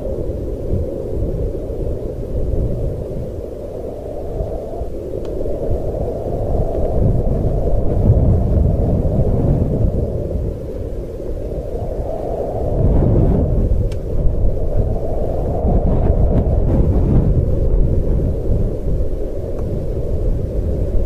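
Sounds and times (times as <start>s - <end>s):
low rumbling wind: 0.0s - 21.0s.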